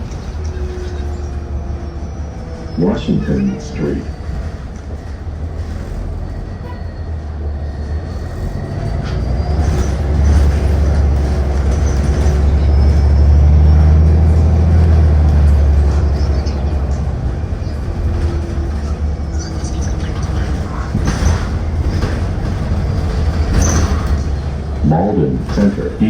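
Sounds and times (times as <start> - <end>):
bus engine rumbling: 0.0 - 26.0.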